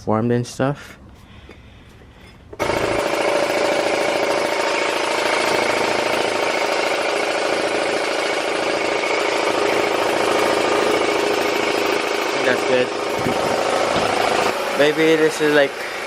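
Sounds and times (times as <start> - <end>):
small air compressor running: 2.6 - 16.0.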